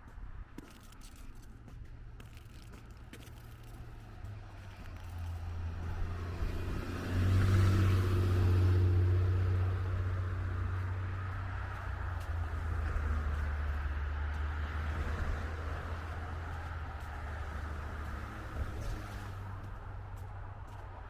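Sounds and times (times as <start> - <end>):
vehicle engine rumble driving past: 3.4 - 21.0.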